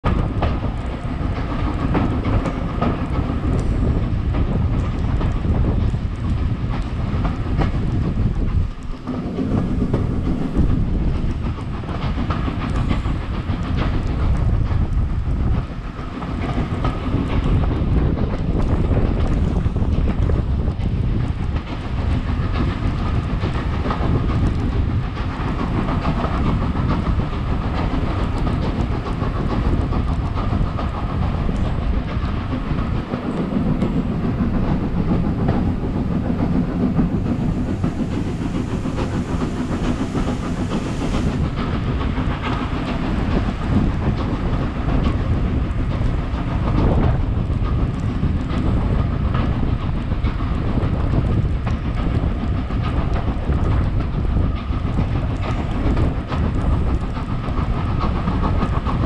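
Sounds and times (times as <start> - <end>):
train rumbling: 0.0 - 59.0
wheels clattering over rail joints: 0.1 - 59.0.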